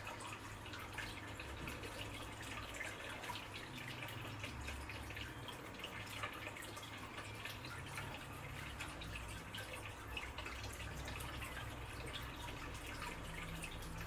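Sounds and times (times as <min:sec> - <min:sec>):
water trickling and dripping: 0:00.0 - 0:14.0.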